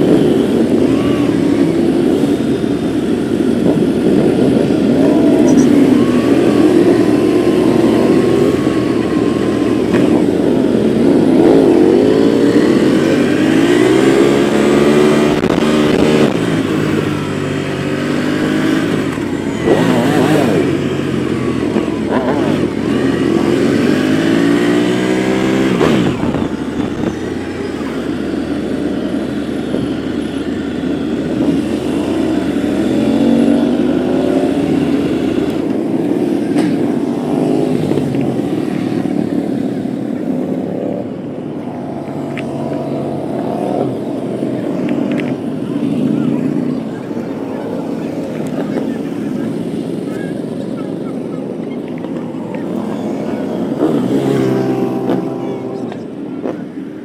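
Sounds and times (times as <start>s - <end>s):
motorcycles riding past: 0.0s - 57.0s.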